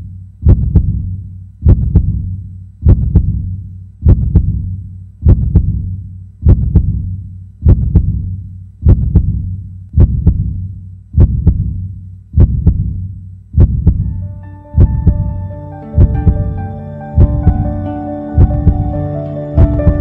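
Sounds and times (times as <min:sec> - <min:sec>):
heartbeat thumps: 0:00.4 - 0:19.0, 0:19.6 - 0:20.0.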